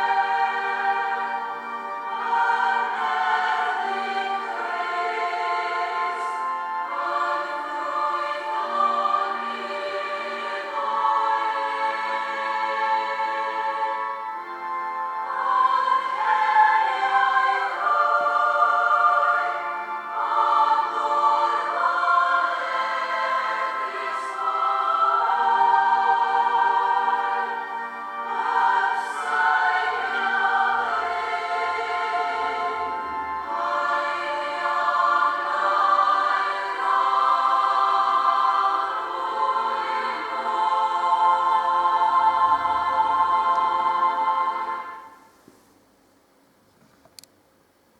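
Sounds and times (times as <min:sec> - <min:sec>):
male choir singing a hymn: 0:00.0 - 0:14.6, 0:15.2 - 0:45.2.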